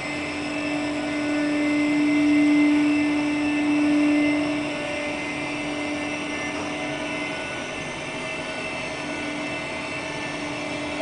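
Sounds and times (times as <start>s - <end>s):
elevator pump motor running: 0.0s - 11.0s
low hum: 0.0s - 11.0s.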